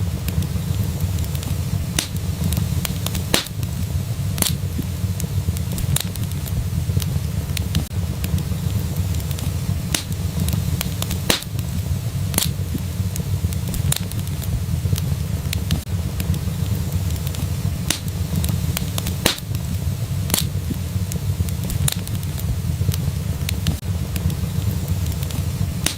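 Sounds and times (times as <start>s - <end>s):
steady low rumble: 0.0s - 25.9s
wood fire crackling and popping: 0.0s - 25.9s.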